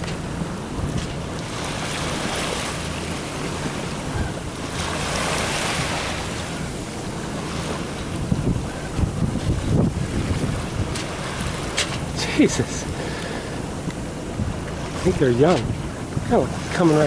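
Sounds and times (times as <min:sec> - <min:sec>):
low steady hum: 0:00.0 - 0:17.0
water rushing past a hull: 0:00.0 - 0:17.0
wind buffeting microphone: 0:00.0 - 0:17.0.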